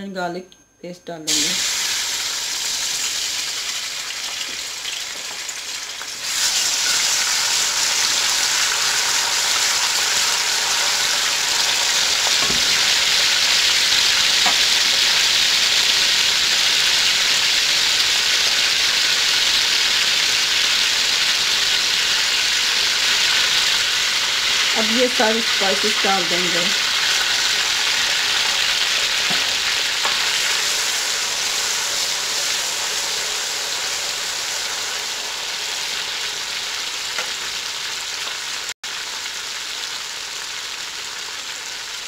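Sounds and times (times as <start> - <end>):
paste sizzling in hot oil: 1.3 - 42.0.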